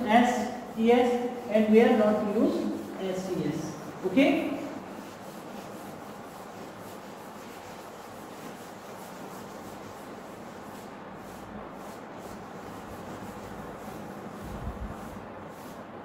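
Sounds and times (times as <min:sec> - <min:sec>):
eraser wiping a whiteboard: 0:00.0 - 0:16.0.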